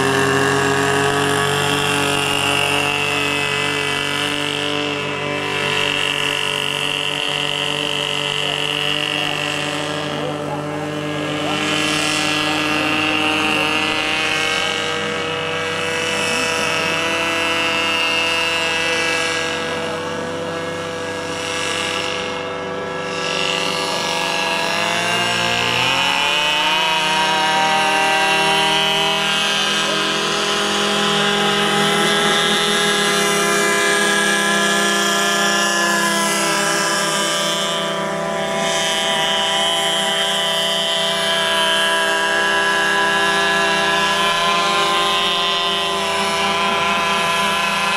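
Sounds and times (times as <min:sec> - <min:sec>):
model boat engine running: 0:00.0 - 0:47.9.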